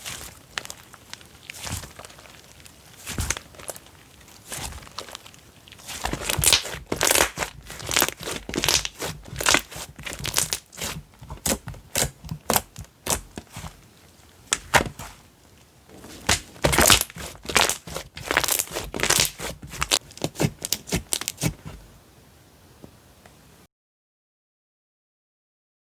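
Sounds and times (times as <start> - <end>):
slime crackling and squishing: 0.0 - 21.8.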